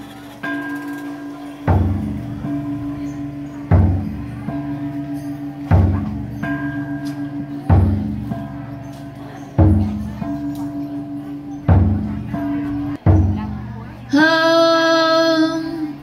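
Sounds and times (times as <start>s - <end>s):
higher gongs ringing: 0.0s - 13.5s.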